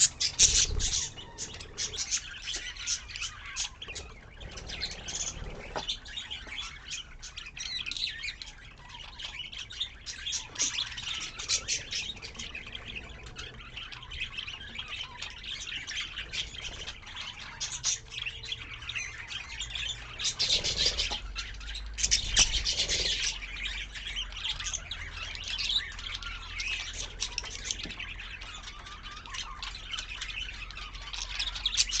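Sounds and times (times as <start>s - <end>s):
budgerigars chattering: 0.0s - 32.0s.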